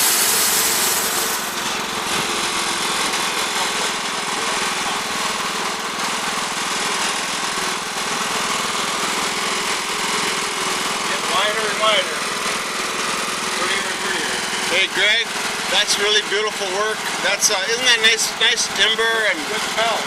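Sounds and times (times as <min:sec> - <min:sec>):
band saw sawing: 0:00.0 - 0:20.0
sawmill engine running: 0:00.0 - 0:20.0.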